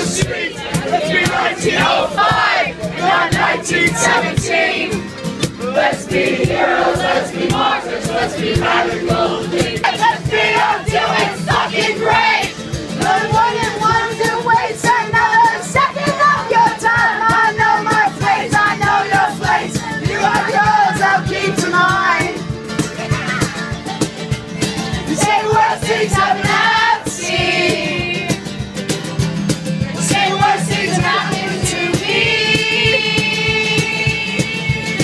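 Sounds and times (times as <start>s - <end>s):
crowd singing along: 0.0s - 28.8s, 29.6s - 35.0s
acoustic guitar strumming: 0.0s - 35.0s.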